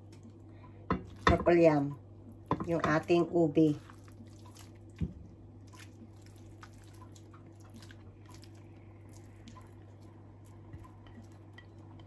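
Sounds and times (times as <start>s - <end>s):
steady low hum: 0.0s - 12.0s
soft squishing: 2.2s - 12.0s.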